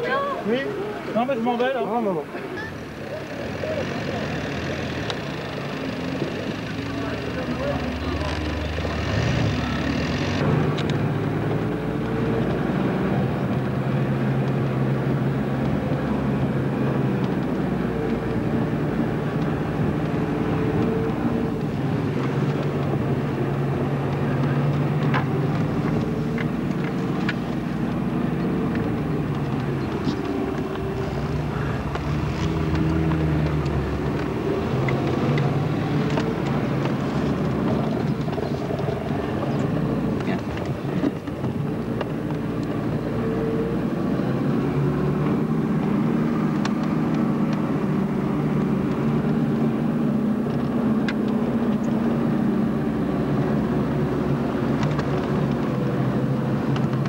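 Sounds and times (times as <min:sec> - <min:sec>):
car engine revving: 0:03.3 - 0:57.0.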